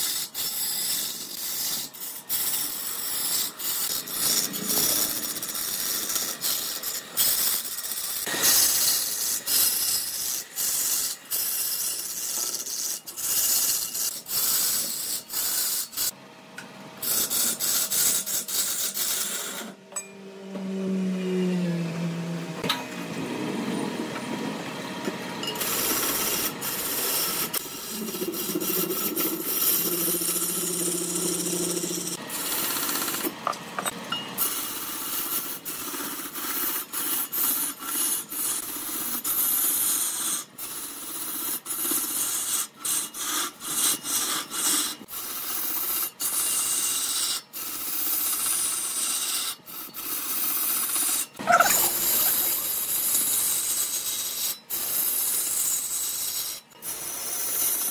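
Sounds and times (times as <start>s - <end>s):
tool scraping wood on lathe: 0.0s - 16.2s, 17.0s - 19.8s, 25.5s - 57.9s.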